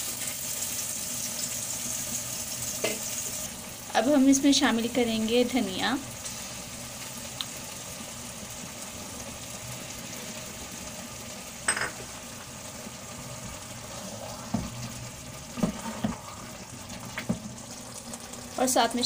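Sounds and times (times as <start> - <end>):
curry sizzling in a wok: 0.0 - 19.0.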